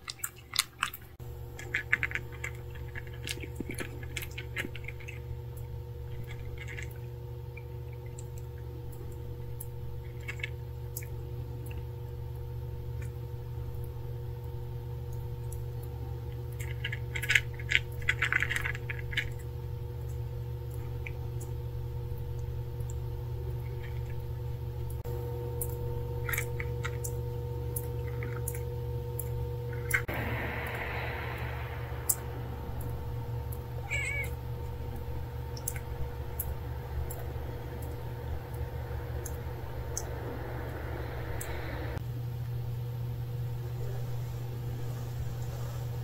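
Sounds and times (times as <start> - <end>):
kittens chewing food: 0.0 - 12.1, 15.0 - 42.0
steady low hum: 0.0 - 46.0.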